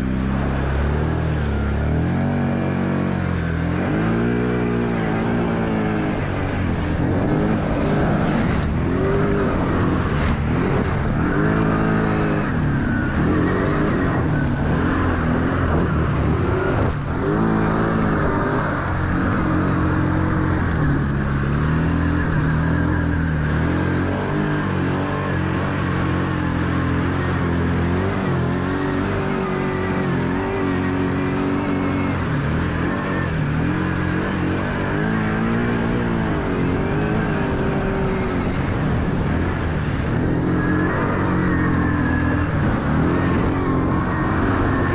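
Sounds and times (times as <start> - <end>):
atv engine revving: 0.0 - 44.9
tyres rushing through water: 0.0 - 44.9.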